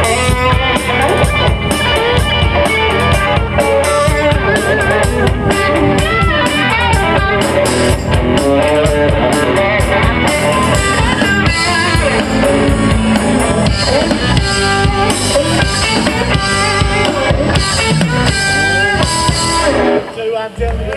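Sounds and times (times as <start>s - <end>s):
live rock band playing: 0.0s - 20.9s.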